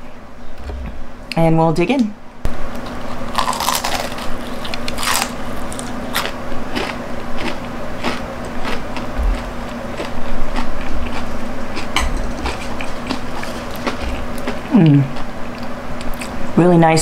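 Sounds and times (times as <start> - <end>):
chewing crunchy batter: 2.8 - 16.5.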